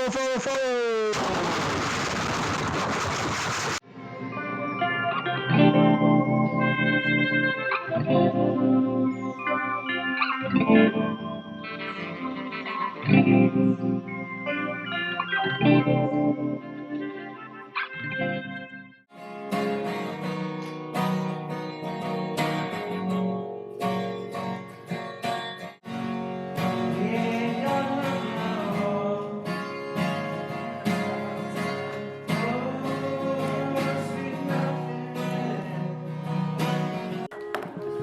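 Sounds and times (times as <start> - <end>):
plucked guitar music: 4.1 - 38.0.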